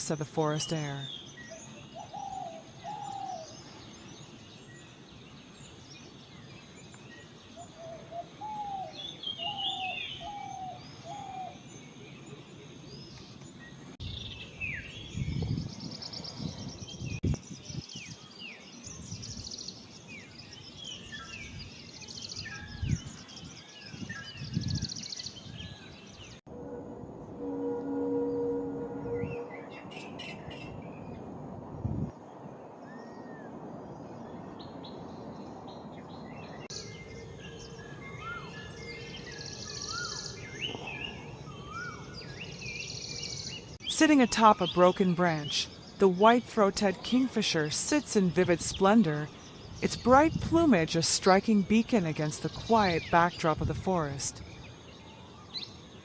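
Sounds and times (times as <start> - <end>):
birds chirping: 0.0 - 26.5, 27.4 - 56.0.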